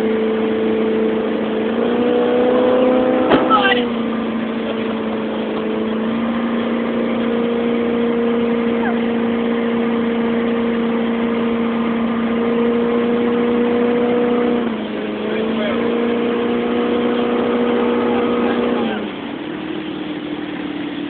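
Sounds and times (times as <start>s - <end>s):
motorboat engine running: 0.0s - 21.0s
rushing water noise: 0.0s - 21.0s.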